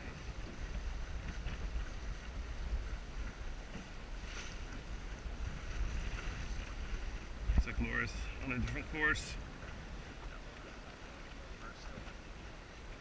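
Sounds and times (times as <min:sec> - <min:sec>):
water moving past hull: 0:00.0 - 0:13.0
wind buffeting microphone: 0:00.0 - 0:13.0.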